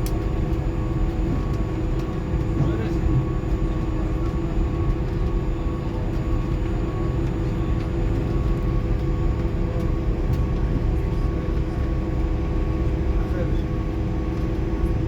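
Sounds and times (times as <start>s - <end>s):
aircraft cabin drone: 0.0s - 15.0s.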